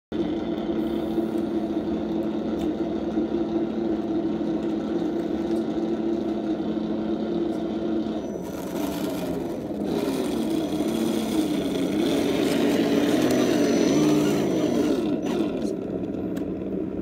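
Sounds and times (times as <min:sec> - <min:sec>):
simulated truck engine idling: 0:00.1 - 0:17.0.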